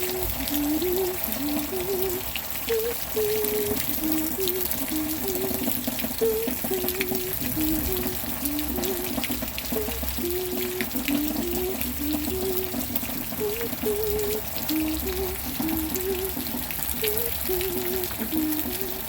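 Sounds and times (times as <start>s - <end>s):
steady rain falling: 0.0s - 19.0s
water trickling and pouring: 0.0s - 19.0s.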